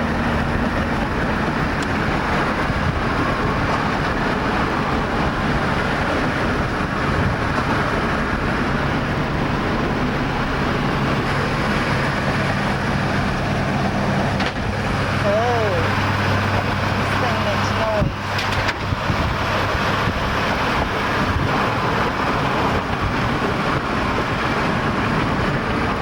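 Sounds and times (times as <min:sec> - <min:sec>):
low engine hum: 0:00.0 - 0:26.0
tyre and wind road noise: 0:00.0 - 0:26.0.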